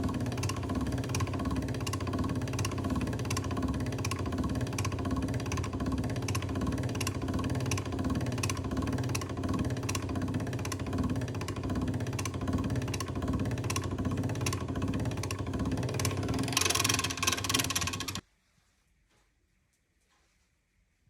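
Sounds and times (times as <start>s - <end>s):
machine motor hum: 0.0s - 18.2s.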